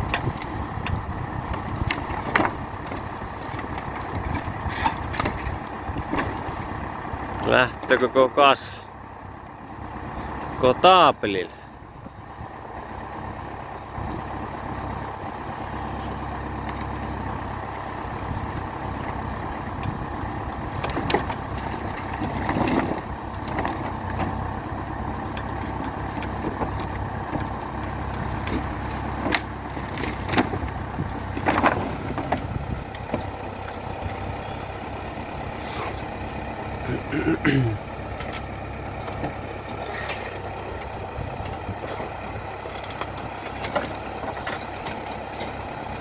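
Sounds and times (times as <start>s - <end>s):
clunks and clatters: 0.0s - 10.7s, 12.0s - 46.0s
tractor diesel engine running: 0.0s - 46.0s.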